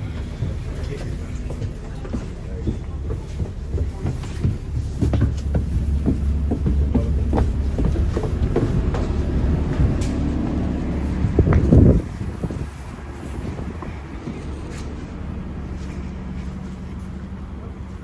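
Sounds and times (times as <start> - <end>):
train clicks and knocks: 0.0 - 18.0
train rumble: 0.0 - 18.0.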